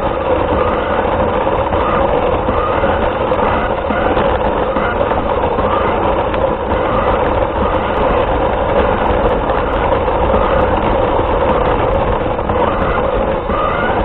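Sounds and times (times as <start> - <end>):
vehicle running rumble: 0.0 - 14.0
whine-like mid range noise: 0.0 - 14.0.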